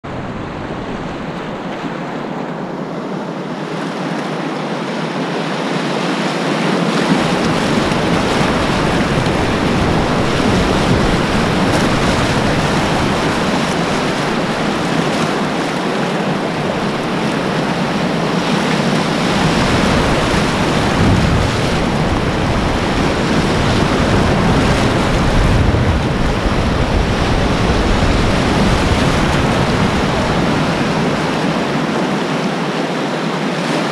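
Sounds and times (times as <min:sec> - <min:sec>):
river rapid rushing: 0:00.0 - 0:33.9
wind buffeting microphone: 0:00.0 - 0:33.9.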